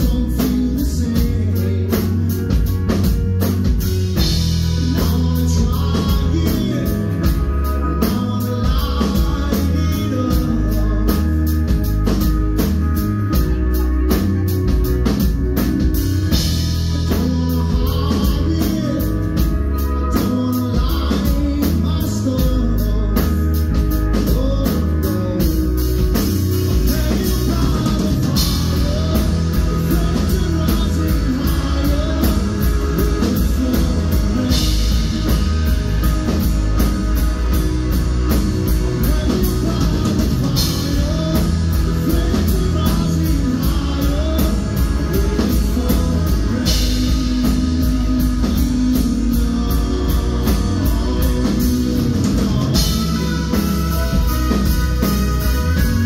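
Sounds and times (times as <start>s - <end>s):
drum kit beat: 0.0s - 56.0s
man singing: 0.0s - 56.0s.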